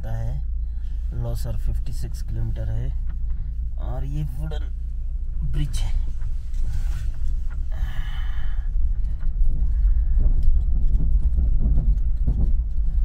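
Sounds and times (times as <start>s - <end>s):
low engine and road rumble: 0.0s - 13.0s.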